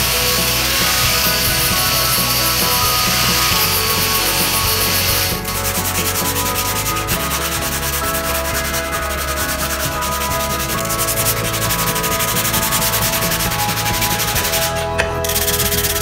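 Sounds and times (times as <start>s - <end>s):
angle grinder sanding wood: 0.0s - 16.0s
scratchy hand sanding: 0.0s - 16.0s.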